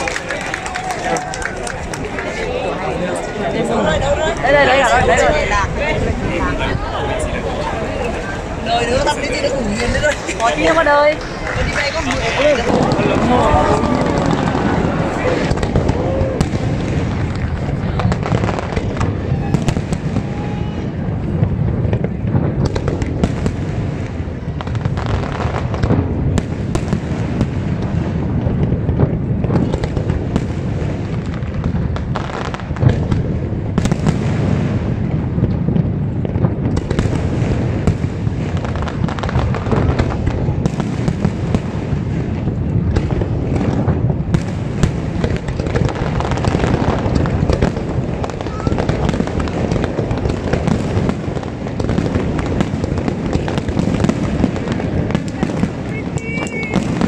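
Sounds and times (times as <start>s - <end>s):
fireworks bangs and crackling: 0.0s - 57.0s
sharp fireworks reports: 0.0s - 57.0s.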